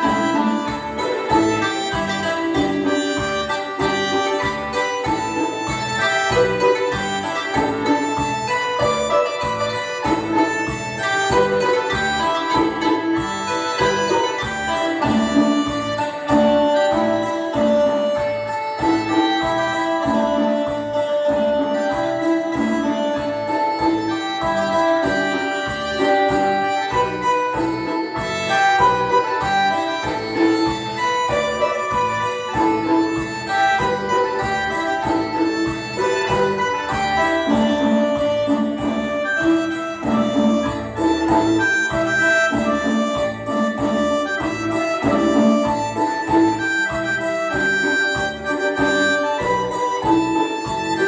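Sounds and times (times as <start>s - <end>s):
jingling bells beat: 0.0s - 51.0s
reedy folk melody: 0.0s - 51.0s.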